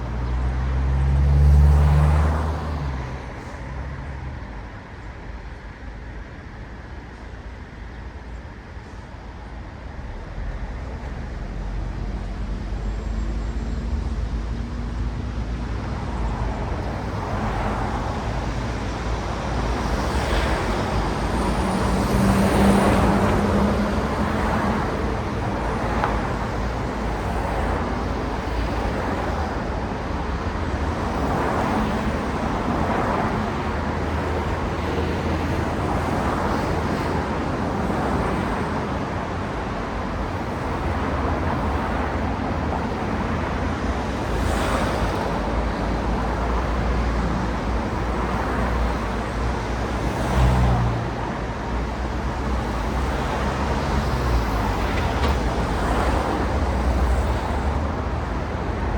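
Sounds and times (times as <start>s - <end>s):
cars passing: 0.0s - 4.7s, 13.9s - 58.9s
low traffic rumble: 0.0s - 58.9s
vehicle engine hum: 10.0s - 58.9s.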